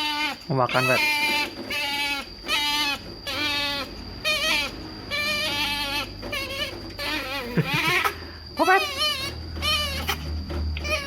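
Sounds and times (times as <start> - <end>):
otter squealing: 0.0 - 11.0.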